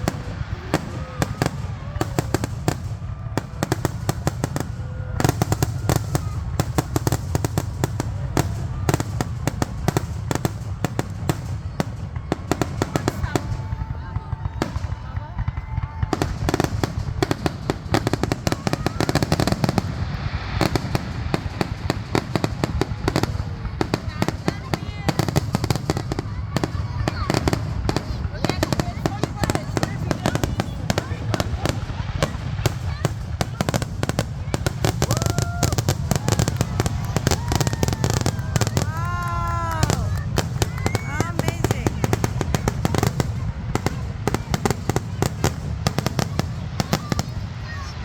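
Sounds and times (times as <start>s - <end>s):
fireworks cracking and popping: 0.0s - 48.0s.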